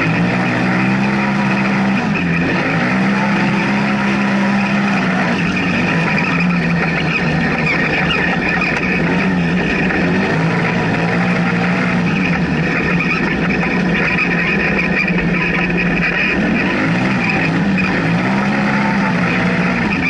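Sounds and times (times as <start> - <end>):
engine running hard: 0.0 - 20.0.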